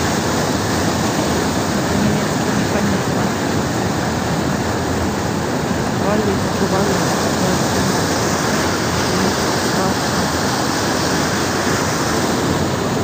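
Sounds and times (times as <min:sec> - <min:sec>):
water rushing over spillway: 0:00.0 - 0:13.0.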